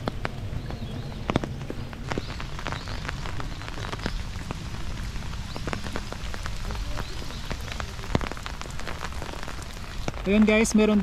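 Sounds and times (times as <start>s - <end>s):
rain on an umbrella: 0.0s - 11.0s.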